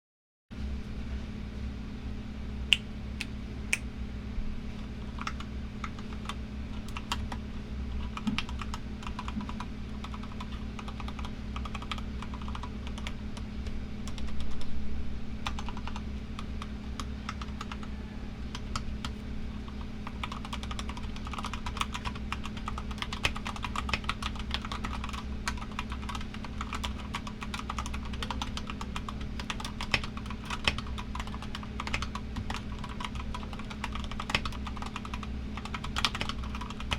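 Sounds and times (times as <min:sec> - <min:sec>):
air conditioner humming: 0:00.6 - 0:36.9
mechanical keyboard typing: 0:05.1 - 0:07.4, 0:08.0 - 0:14.7, 0:15.4 - 0:17.9, 0:18.5 - 0:36.9.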